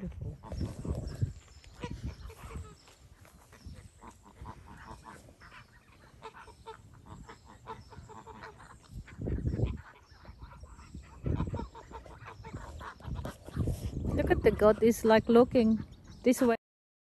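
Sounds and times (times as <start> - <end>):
geese honking: 0.4 - 16.6.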